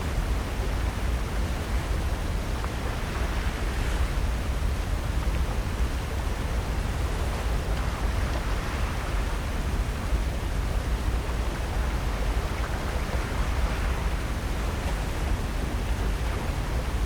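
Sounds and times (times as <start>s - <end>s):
surf: 0.0s - 17.0s
wind: 0.0s - 17.0s.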